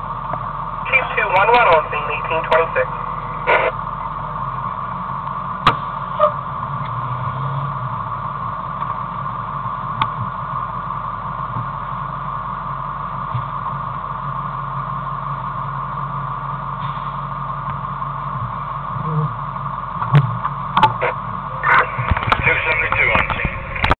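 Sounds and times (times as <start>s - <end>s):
fire engine idling: 0.0s - 23.9s.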